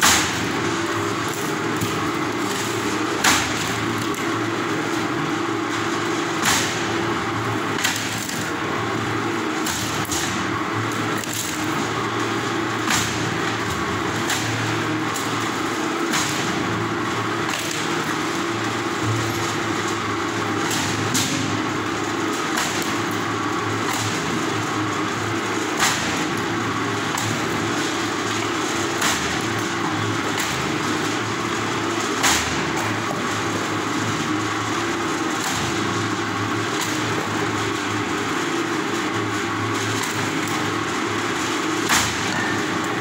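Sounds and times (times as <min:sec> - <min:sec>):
firewood splitter running: 0:00.0 - 0:43.0.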